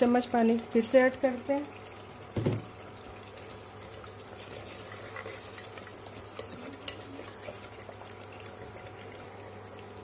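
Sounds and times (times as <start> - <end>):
soft sizzle: 0.0 - 10.0.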